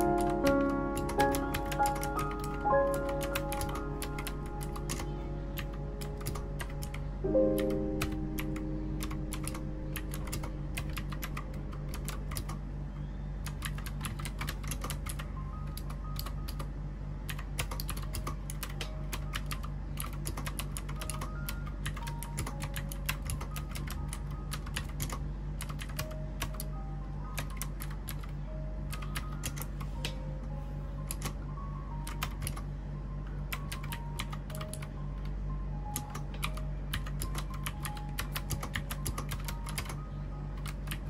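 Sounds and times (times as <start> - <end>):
keyboard typing clicks: 0.0 - 12.6, 13.4 - 16.7, 17.3 - 30.2, 31.0 - 31.4, 32.0 - 32.7, 33.5 - 40.0, 40.6 - 41.0
soft background music: 0.0 - 41.0.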